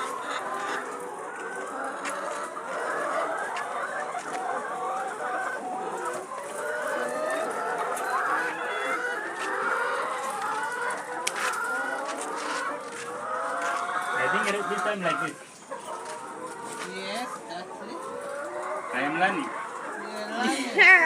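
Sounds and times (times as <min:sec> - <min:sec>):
hens clucking and calling: 0:00.0 - 0:21.0.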